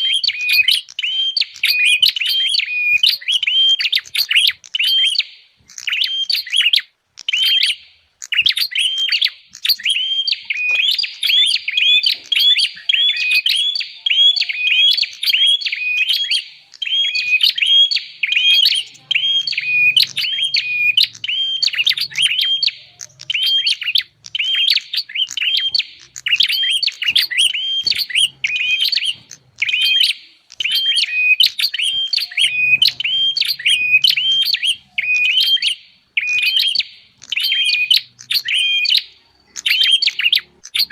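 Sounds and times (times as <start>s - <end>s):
bird sharp repeated chirps: 0.0s - 40.9s.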